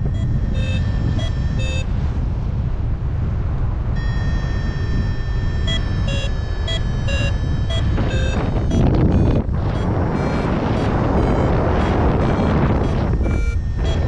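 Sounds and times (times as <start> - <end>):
variometer beeping: 0.0 - 2.0, 4.0 - 14.0
wind rushing over microphone: 0.0 - 14.0.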